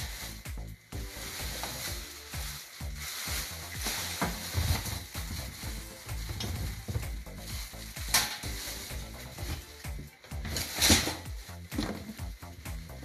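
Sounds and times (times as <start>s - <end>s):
background music with bass line: 0.0s - 13.0s
steady high hiss: 0.0s - 13.0s.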